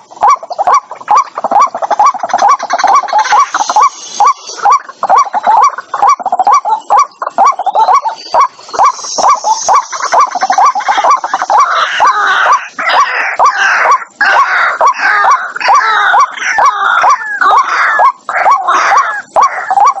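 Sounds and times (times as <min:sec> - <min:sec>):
waterhen grunting croaks: 0:00.0 - 0:20.0.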